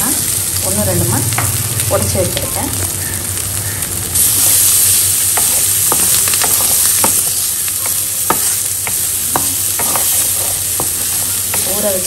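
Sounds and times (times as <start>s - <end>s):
lentils sizzling in hot oil: 0.0s - 12.0s.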